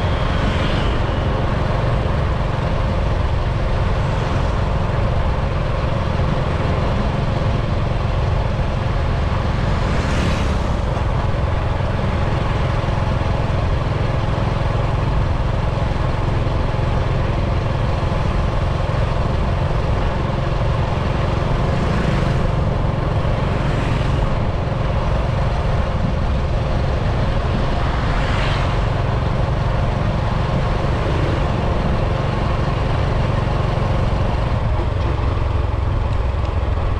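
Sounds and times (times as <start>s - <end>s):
vehicle engine and road noise: 0.0s - 36.9s.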